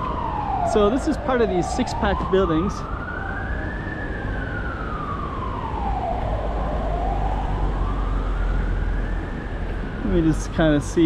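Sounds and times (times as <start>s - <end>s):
fire engine siren wailing: 0.0s - 11.0s
street traffic rumble: 0.0s - 11.0s.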